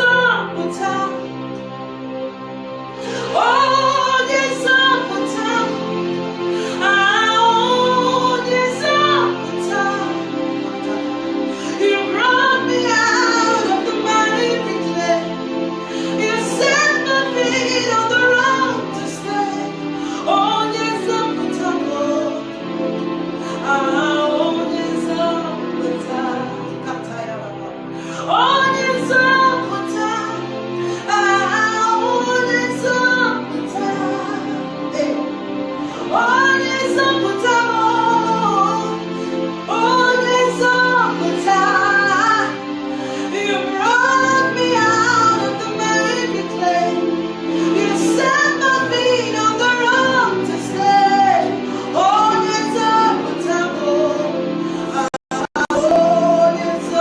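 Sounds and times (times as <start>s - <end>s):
woman singing: 0.0s - 1.6s, 3.0s - 57.0s
held keyboard chords: 0.0s - 57.0s
sustained instrumental accompaniment: 0.0s - 57.0s.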